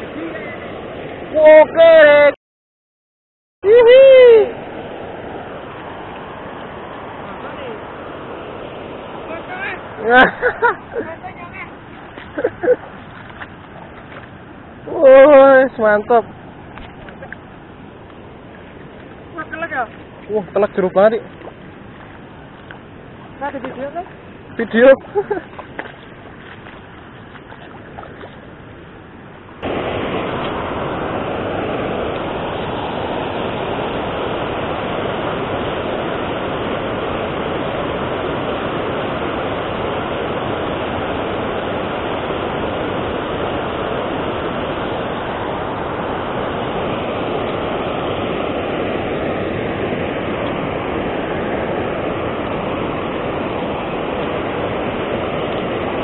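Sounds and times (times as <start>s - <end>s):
water rushing over a weir: 0.0s - 2.4s, 3.6s - 56.0s.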